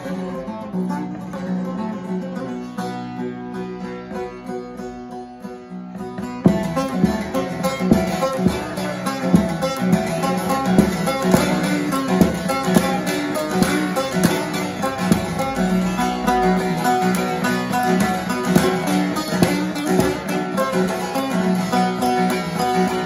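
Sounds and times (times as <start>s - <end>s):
long-necked lute strummed: 0.0s - 23.0s.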